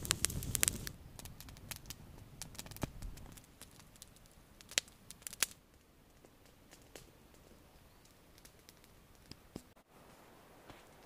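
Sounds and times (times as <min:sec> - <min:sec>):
campfire crackling and popping: 0:00.0 - 0:09.8.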